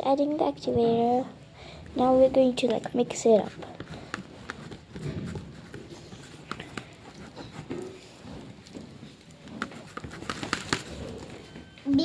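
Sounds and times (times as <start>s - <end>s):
slime being mixed: 2.0s - 12.0s.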